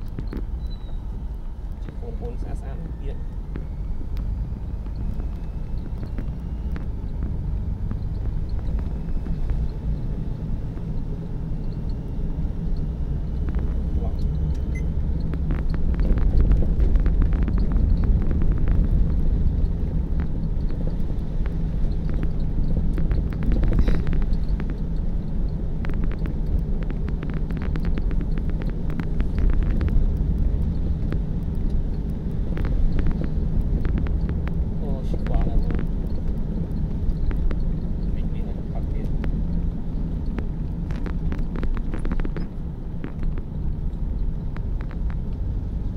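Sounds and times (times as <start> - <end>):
engine and tyre rumble: 0.0 - 45.9
sharp clicks and rattles: 0.0 - 45.9.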